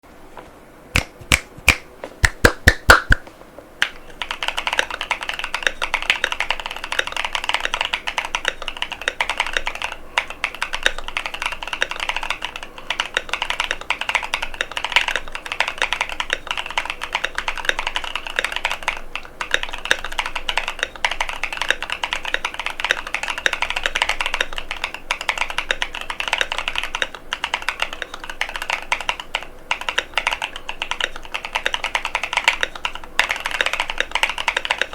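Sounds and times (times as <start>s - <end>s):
mechanical keyboard typing: 3.8s - 34.9s.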